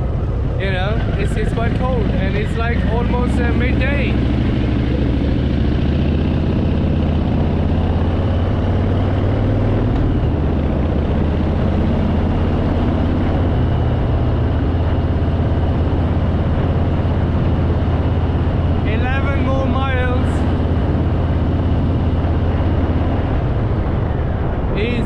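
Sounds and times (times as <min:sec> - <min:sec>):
motorcycle engine while riding: 0:00.0 - 0:25.0.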